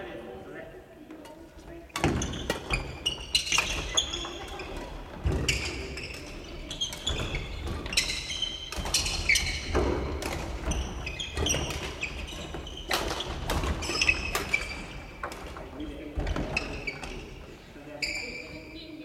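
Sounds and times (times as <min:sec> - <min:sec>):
rackets striking shuttlecocks: 0:01.2 - 0:17.4
shoes squeaking on wooden floor: 0:01.5 - 0:18.9.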